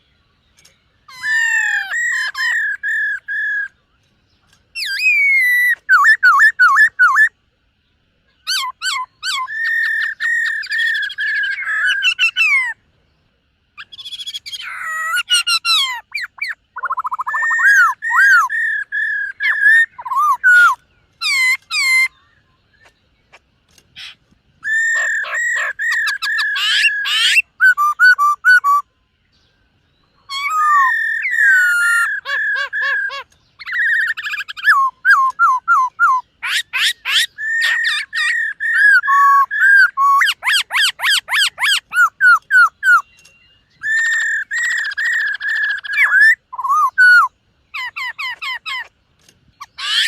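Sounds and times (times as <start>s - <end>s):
bird singing whistled notes: 0.0s - 12.8s, 13.8s - 50.0s.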